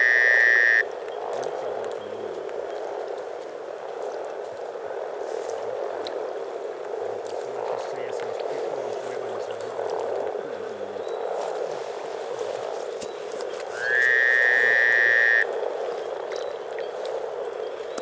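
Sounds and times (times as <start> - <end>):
chorus of frogs calling: 0.0 - 18.0.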